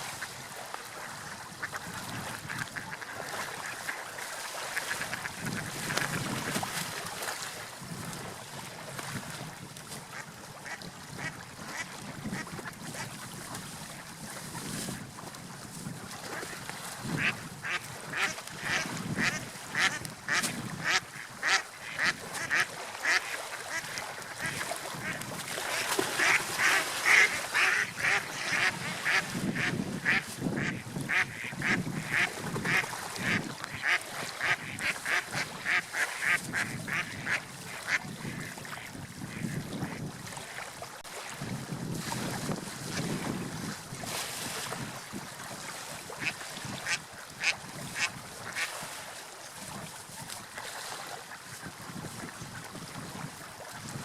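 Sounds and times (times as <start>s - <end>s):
water and wind: 0.0s - 54.0s.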